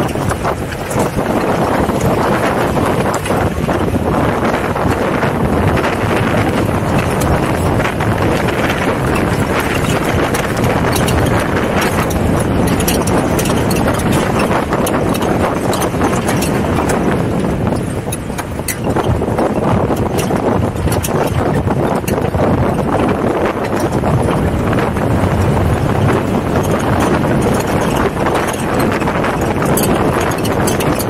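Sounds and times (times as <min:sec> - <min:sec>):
vehicle rumble over rough ground: 0:00.0 - 0:31.0.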